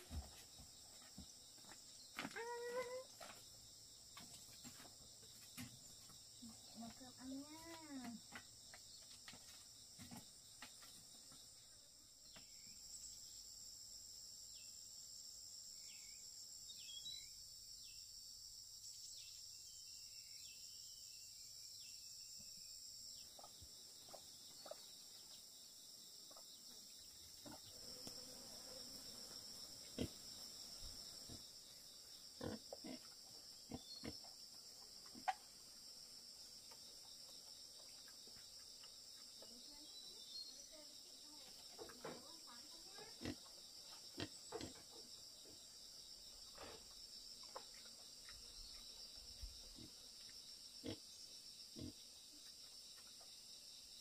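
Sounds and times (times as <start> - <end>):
insects chorus: 0.0 - 54.0.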